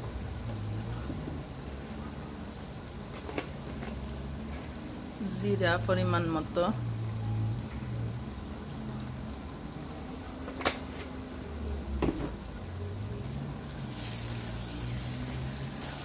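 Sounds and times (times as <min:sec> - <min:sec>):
onions sizzling in a pot: 0:00.0 - 0:16.0.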